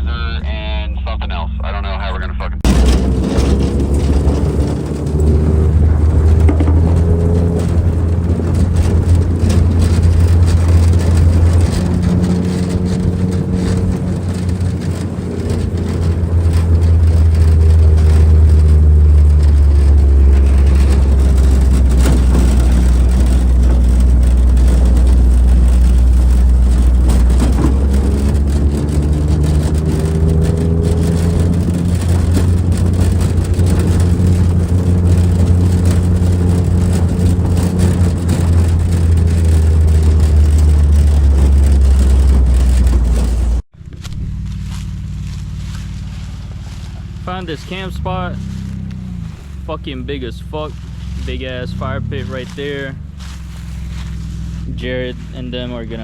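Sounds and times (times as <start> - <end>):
off-road vehicle engine droning: 0.0 - 56.0.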